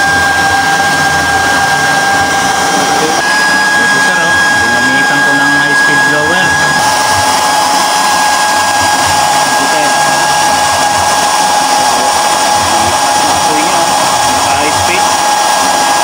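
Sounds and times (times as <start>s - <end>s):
oil burner blower rushing hiss: 0.0s - 16.0s
steady whine: 0.0s - 16.0s.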